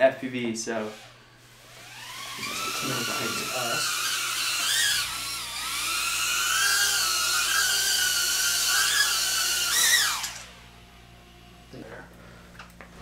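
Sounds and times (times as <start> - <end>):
small drone motors whining: 0.8 - 12.0.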